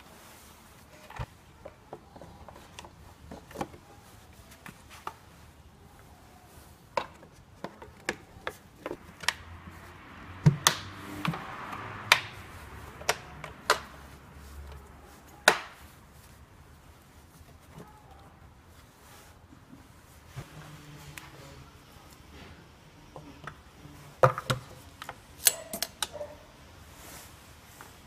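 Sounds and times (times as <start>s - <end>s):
handling rustle: 0.0s - 10.1s, 12.4s - 22.7s, 23.6s - 28.0s.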